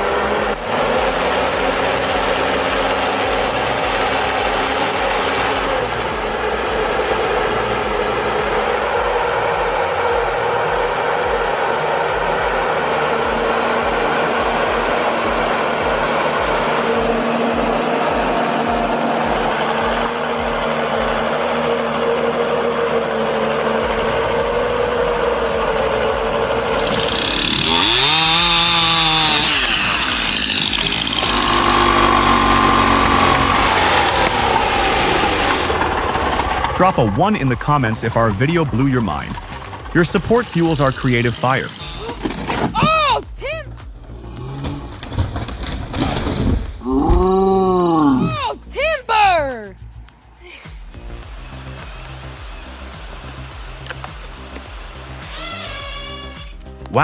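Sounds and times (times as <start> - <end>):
engine running hard: 0.0 - 57.0.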